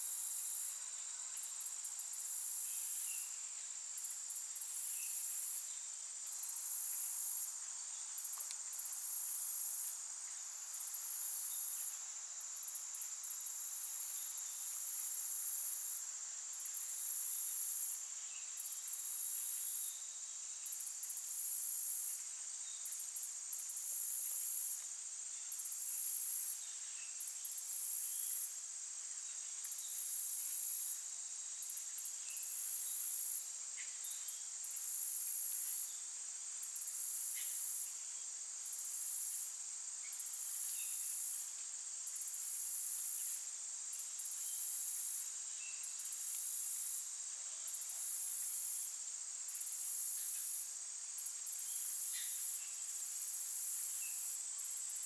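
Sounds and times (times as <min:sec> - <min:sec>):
insects trilling: 0:00.0 - 0:55.0
steady high insect buzz: 0:00.0 - 0:55.0.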